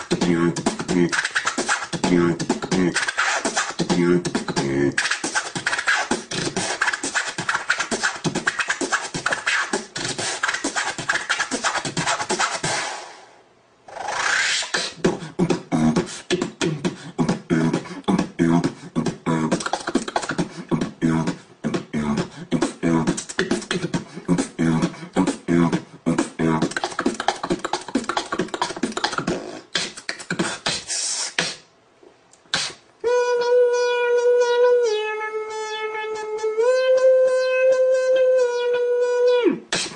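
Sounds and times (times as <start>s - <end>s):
person beatboxing: 0.0s - 13.1s, 13.9s - 31.7s, 32.4s - 39.9s.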